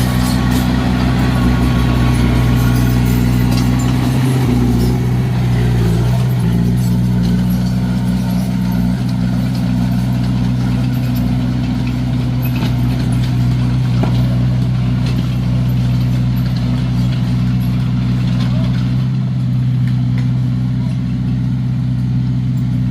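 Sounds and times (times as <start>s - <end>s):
diesel engine droning: 0.0s - 22.9s.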